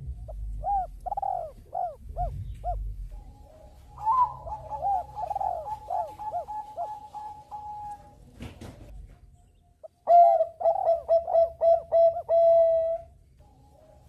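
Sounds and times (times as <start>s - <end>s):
dove cooing: 0.0s - 8.2s, 9.8s - 14.0s.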